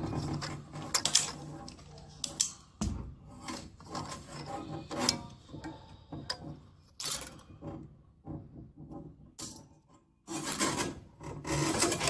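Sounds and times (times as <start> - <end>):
pliers scraping cable wire: 0.0 - 2.7, 3.3 - 7.9, 8.8 - 12.0.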